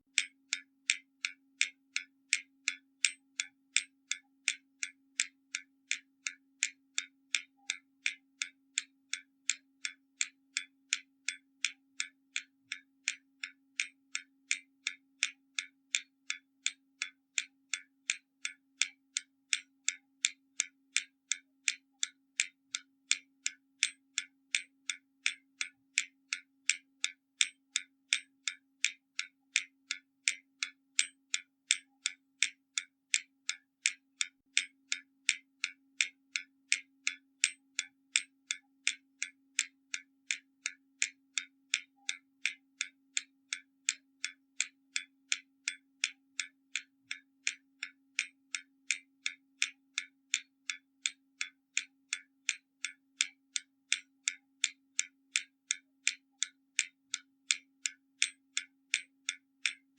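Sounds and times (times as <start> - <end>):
mechanical clock ticking: 0.1 - 59.9.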